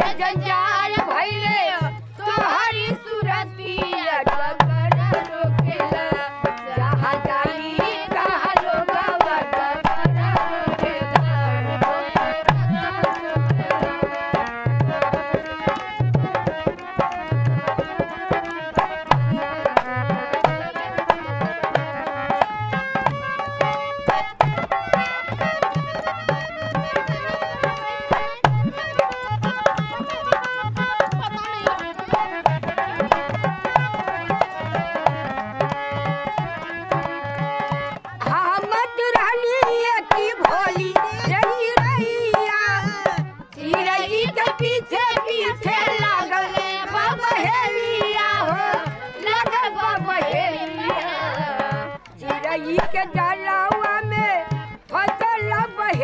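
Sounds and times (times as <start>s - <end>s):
hand drum beat: 0.0s - 56.0s
harmonium folk melody: 0.0s - 56.0s.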